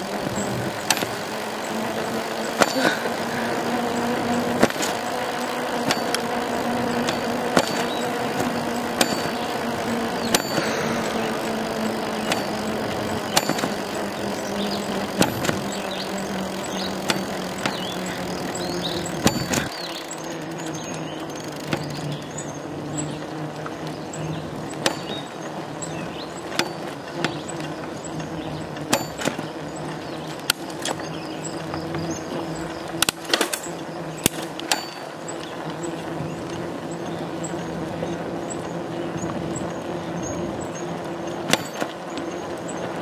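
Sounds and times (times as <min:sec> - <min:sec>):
bicycle rolling hum: 0:00.0 - 0:43.0.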